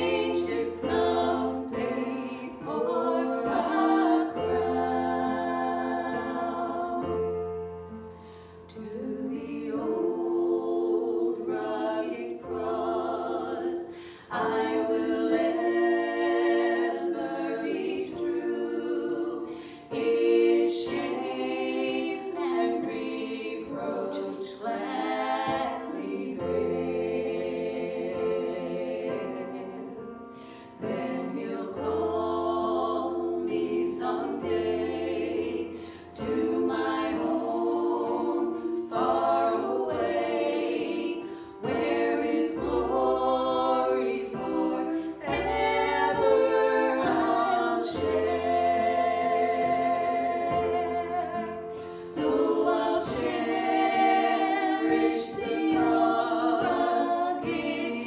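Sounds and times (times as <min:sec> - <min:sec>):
voices singing worship song: 0:00.0 - 0:58.0.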